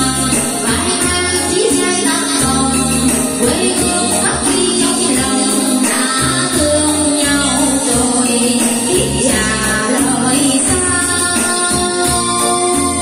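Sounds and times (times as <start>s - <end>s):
backing track with pulsing bass: 0.0s - 13.0s
woman singing: 0.0s - 13.0s.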